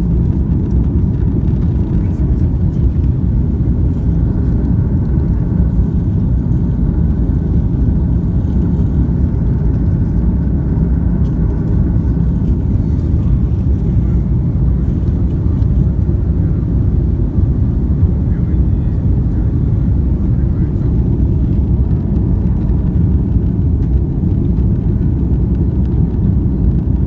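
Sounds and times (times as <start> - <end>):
jet engine roar in cabin: 0.0 - 27.0.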